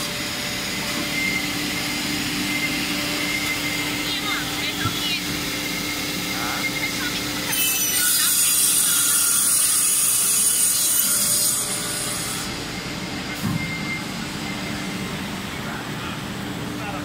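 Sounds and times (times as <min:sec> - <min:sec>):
machine running hum: 0:00.0 - 0:10.1, 0:10.7 - 0:17.0.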